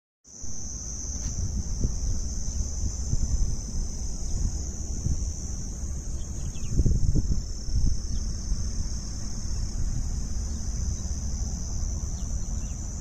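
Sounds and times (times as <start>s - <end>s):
insects chorus: 0.3s - 13.0s
wind rumble on microphone: 0.3s - 13.0s.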